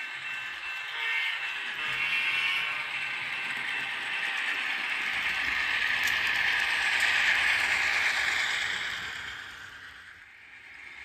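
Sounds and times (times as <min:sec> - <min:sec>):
model train whirring and rattling: 0:00.0 - 0:11.0.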